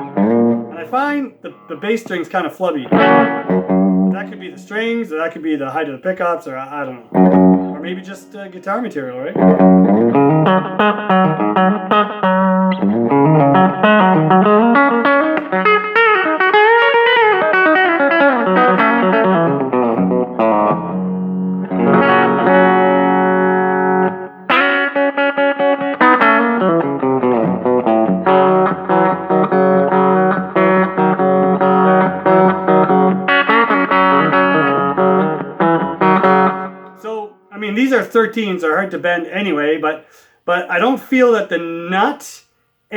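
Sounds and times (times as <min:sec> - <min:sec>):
clean electric guitar riffs: 0:00.0 - 0:38.1.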